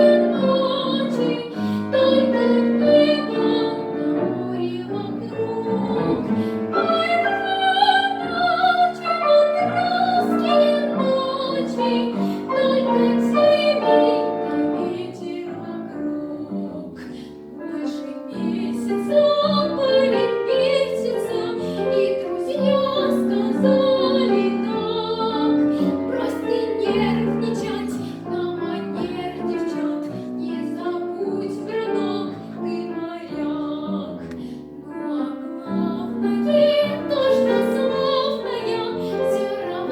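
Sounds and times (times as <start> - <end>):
girl singing classical style: 0.0 - 39.9
piano accompaniment: 0.0 - 39.9.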